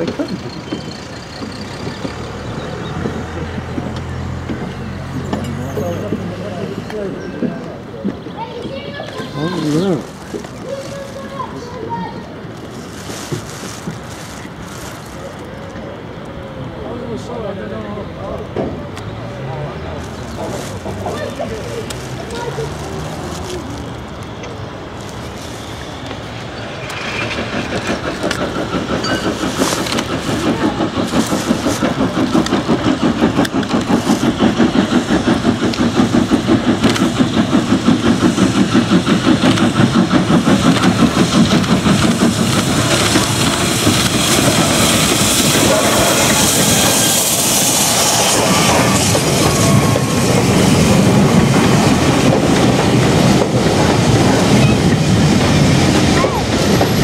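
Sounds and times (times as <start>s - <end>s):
coaches clattering over rail joints: 0.0s - 16.4s, 17.0s - 57.0s
steam locomotive exhaust beats: 0.0s - 16.8s, 18.3s - 57.0s
steam hissing rush: 0.0s - 57.0s.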